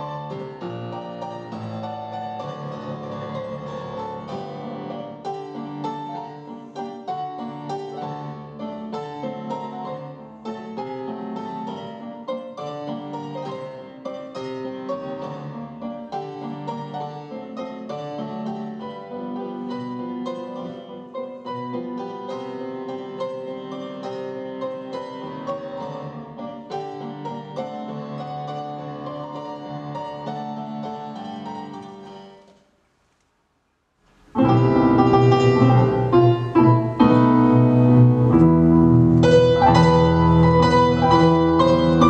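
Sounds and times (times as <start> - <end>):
piano playing ballet music: 0.0 - 32.6, 34.2 - 42.0.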